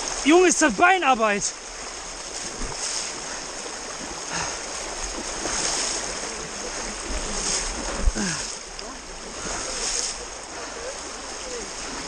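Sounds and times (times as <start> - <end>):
person wading through water: 0.0 - 12.0
stream rushing: 0.0 - 12.0.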